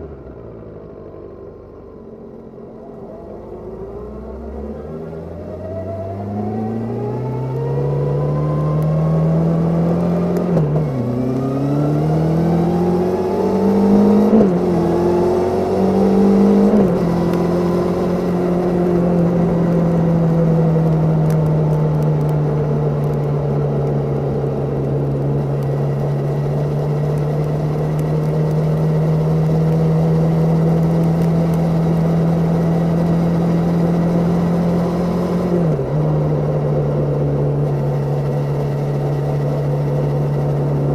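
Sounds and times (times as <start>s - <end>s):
motorcycle engine revving: 3.1s - 40.9s.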